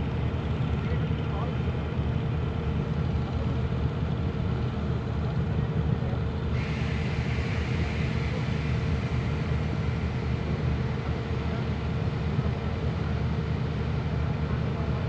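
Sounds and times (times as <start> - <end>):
large engine rumbling: 0.0 - 15.0.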